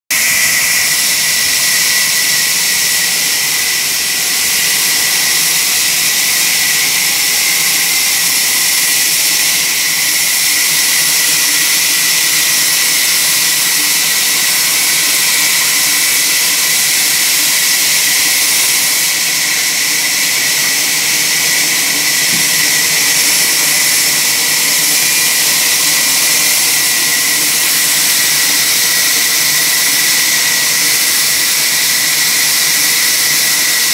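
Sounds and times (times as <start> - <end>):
bandsaw mill sawing log: 0.1 - 33.9.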